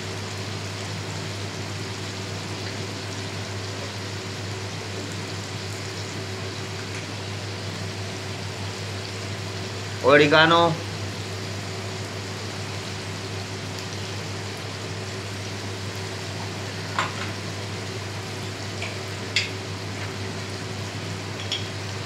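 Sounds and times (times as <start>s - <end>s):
chicken sizzling in wok: 0.0s - 22.0s.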